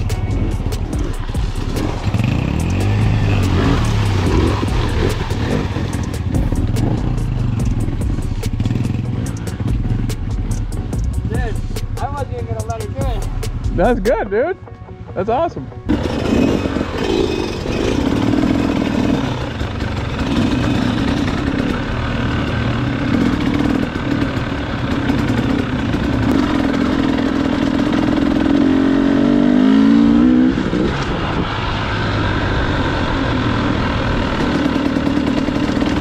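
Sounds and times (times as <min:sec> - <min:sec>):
dirt bike engine: 0:00.0 - 0:14.4, 0:15.2 - 0:36.0.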